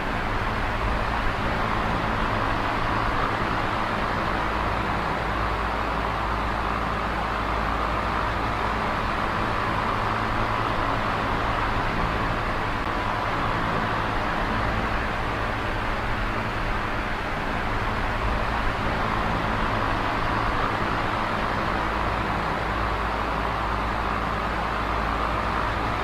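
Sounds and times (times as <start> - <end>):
electric fan air rush: 0.0 - 26.0
fan motor hum: 0.0 - 26.0.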